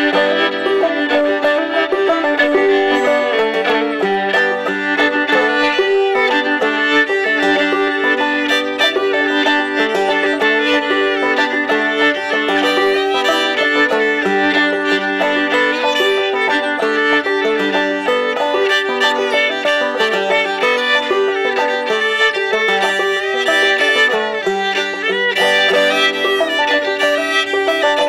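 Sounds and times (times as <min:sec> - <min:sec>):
banjo picking: 0:00.0 - 0:28.0
fiddle melody: 0:00.0 - 0:28.0.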